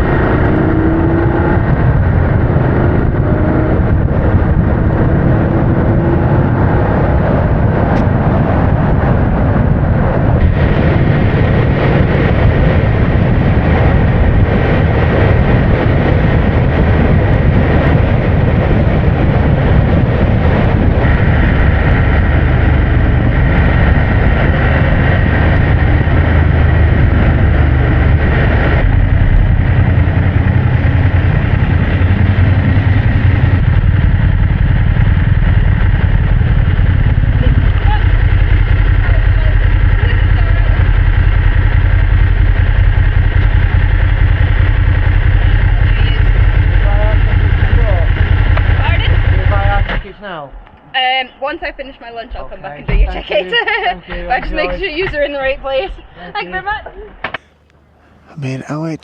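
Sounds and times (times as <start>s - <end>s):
motorcycle engine: 0.0s - 50.0s
wind rushing over microphone: 0.0s - 59.0s.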